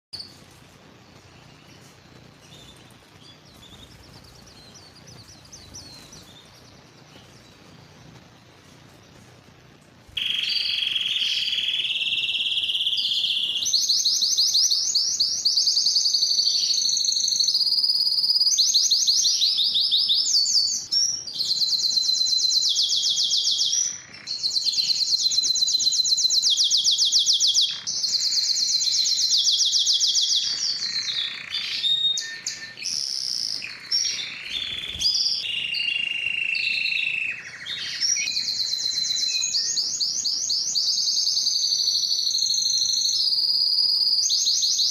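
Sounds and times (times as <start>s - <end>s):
canary singing trilled song: 0.1s - 44.9s.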